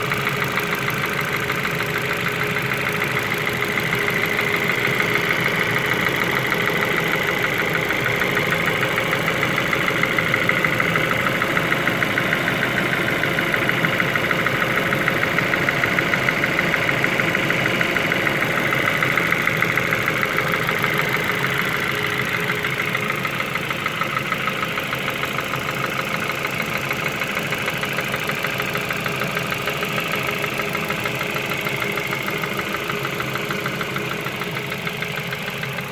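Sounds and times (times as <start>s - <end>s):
car engine idling with knock: 0.0s - 35.9s.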